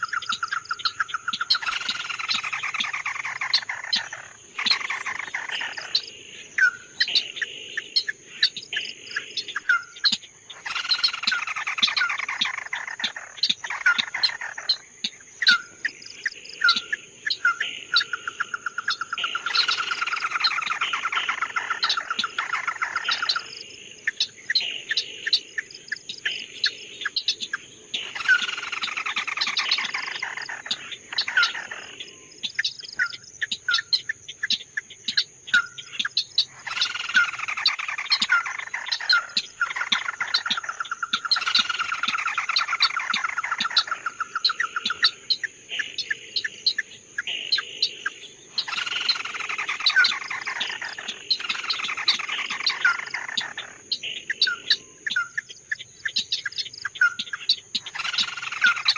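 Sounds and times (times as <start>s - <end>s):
rapid bird trill: 0.0s - 58.9s
songbird singing: 0.0s - 58.9s.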